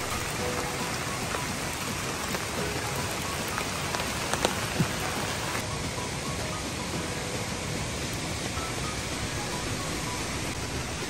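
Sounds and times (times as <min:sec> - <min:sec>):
raindrops pattering: 0:00.0 - 0:11.0.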